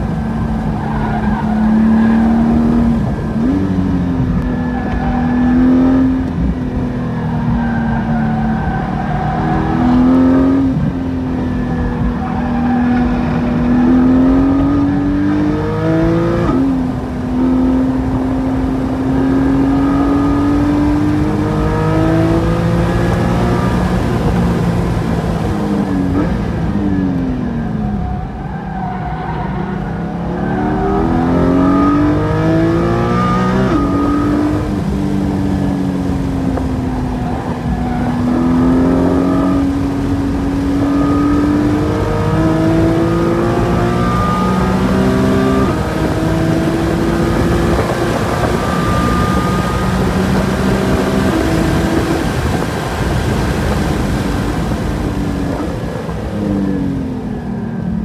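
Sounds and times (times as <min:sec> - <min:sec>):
sports car engine revving: 0:00.0 - 0:28.1, 0:28.7 - 0:58.0.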